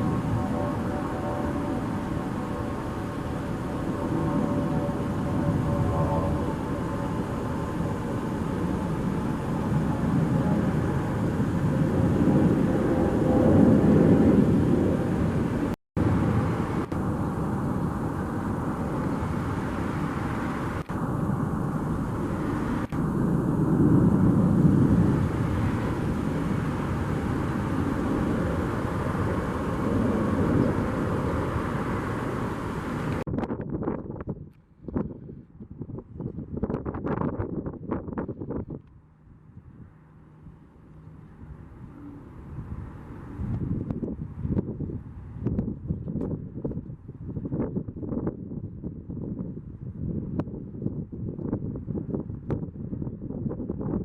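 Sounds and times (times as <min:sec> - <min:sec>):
jet engine rumble: 0:00.0 - 0:54.0.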